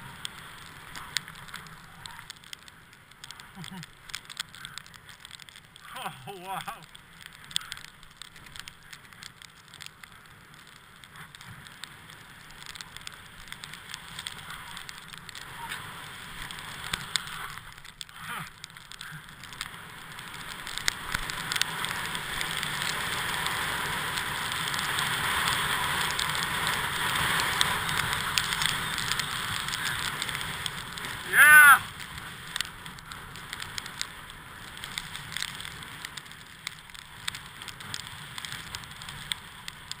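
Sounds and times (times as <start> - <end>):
skis sliding over snow: 0.0 - 40.0.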